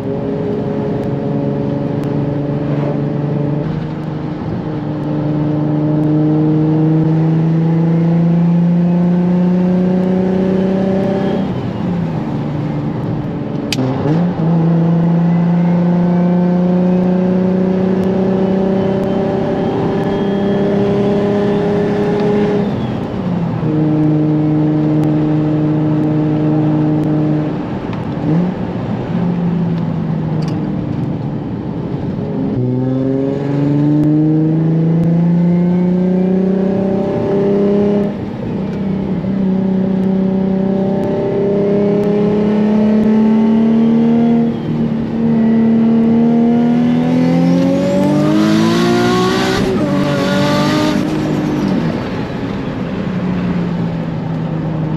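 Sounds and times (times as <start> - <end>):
car engine revving: 0.0 - 29.0, 30.1 - 54.9.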